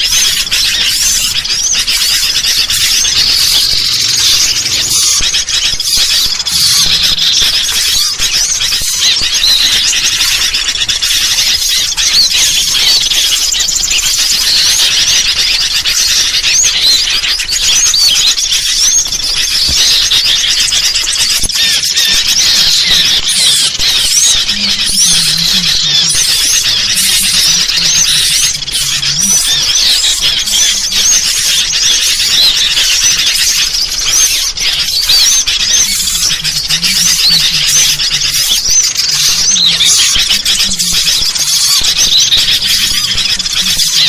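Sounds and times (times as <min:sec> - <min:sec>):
bulbuls calling: 0:00.0 - 0:44.0
small songbirds chirping: 0:00.0 - 0:44.0.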